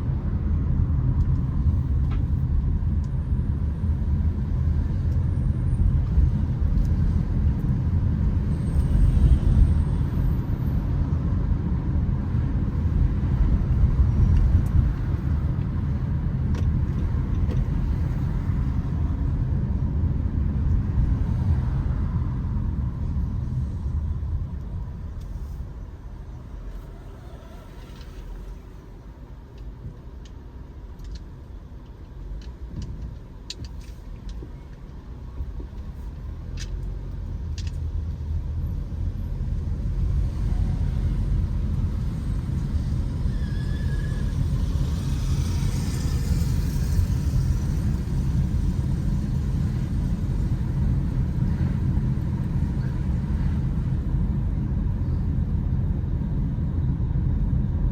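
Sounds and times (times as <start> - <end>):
traffic noise: 0.0 - 57.9
vehicle rumble on road: 0.0 - 57.9.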